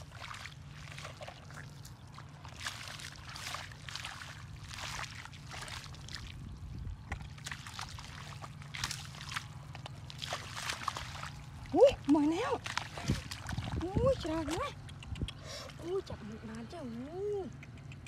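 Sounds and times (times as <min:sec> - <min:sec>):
feet splashing in muddy water: 0:00.0 - 0:16.8.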